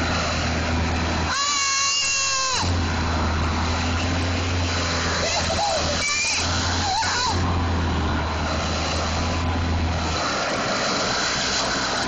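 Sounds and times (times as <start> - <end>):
atv engine drone: 0.0 - 12.0.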